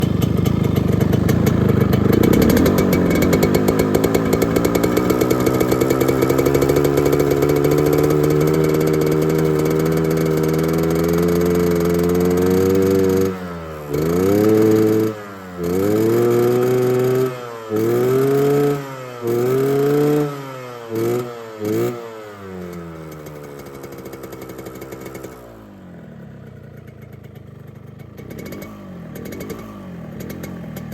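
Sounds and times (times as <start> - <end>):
two-stroke motorcycle engine revving: 0.0 - 30.9.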